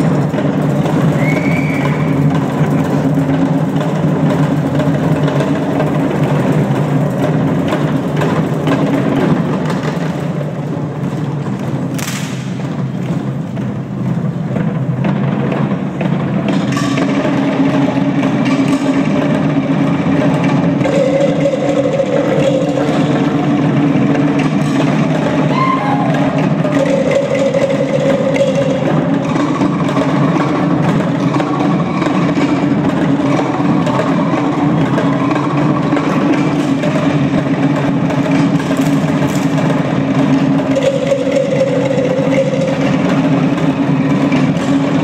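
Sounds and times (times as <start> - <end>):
drum ensemble playing rapid beats: 0.0 - 45.0.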